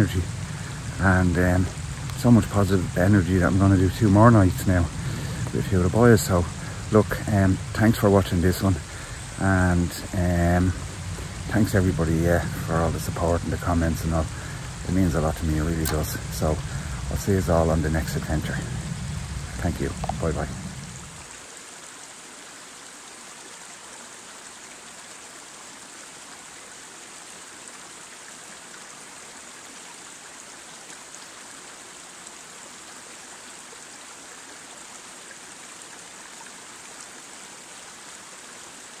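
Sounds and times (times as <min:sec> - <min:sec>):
stream running over rocks: 0:00.0 - 0:39.0.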